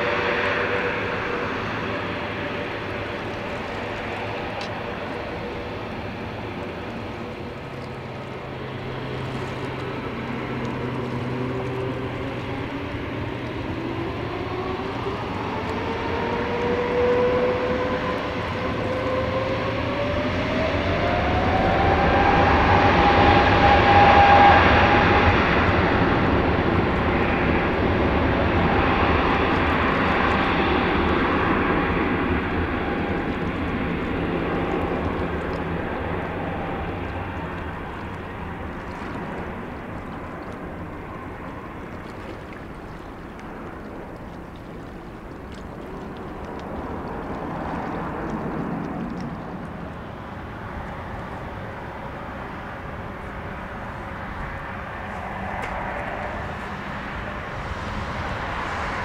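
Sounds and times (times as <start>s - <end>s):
jet engines spooling up with whine: 0.0s - 59.0s.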